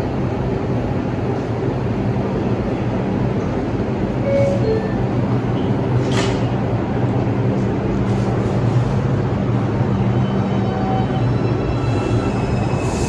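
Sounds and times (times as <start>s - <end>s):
subway train rumble and hum: 0.0s - 13.0s.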